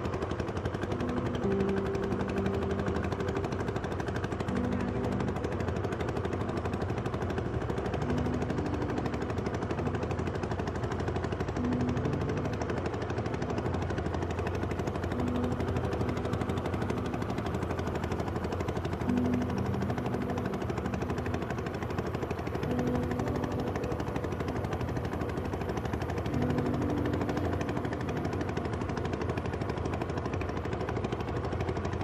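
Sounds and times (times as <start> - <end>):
small engine rattling: 0.0 - 32.0.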